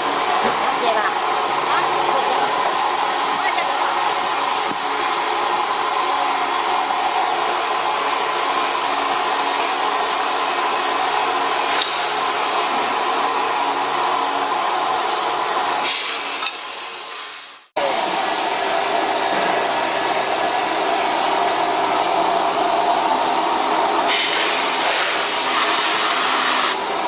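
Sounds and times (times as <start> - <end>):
cold saw cutting: 0.0 - 16.9, 17.8 - 27.0.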